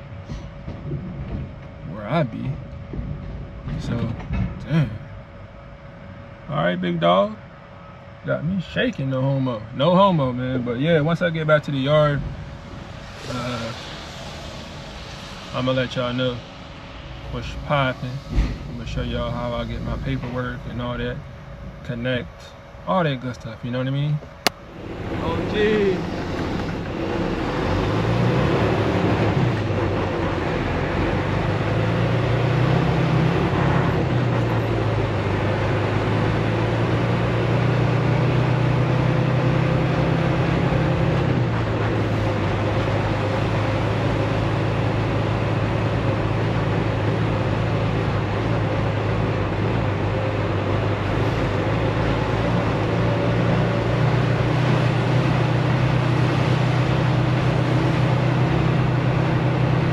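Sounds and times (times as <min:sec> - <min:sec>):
road noise: 0:00.0 - 0:23.0, 0:24.2 - 0:59.9
truck diesel engine: 0:08.8 - 0:23.0, 0:24.4 - 0:59.9.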